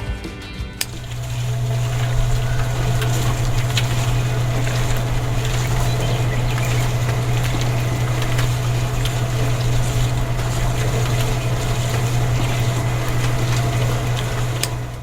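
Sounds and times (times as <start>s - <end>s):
small motor whirring: 0.8s - 15.0s.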